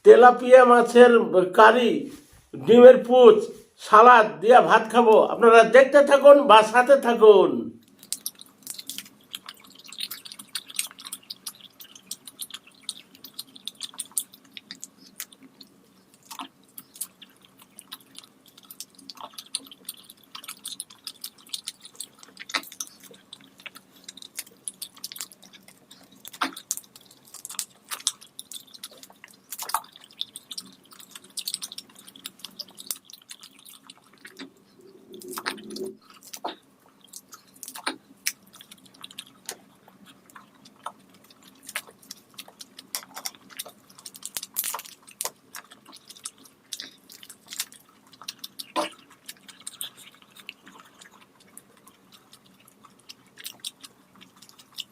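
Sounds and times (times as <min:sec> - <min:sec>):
wet chewing and lip smacks: 0:07.8 - 0:54.9.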